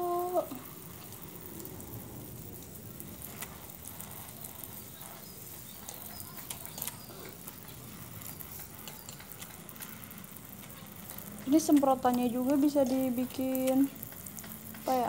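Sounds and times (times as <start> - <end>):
faint steady hiss: 0.0 - 15.0
water drops pattering: 0.0 - 15.0.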